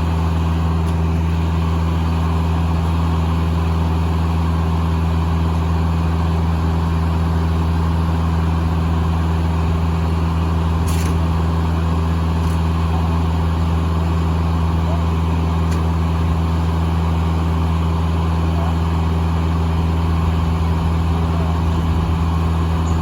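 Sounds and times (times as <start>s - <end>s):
engine running with low hum: 0.0s - 23.0s.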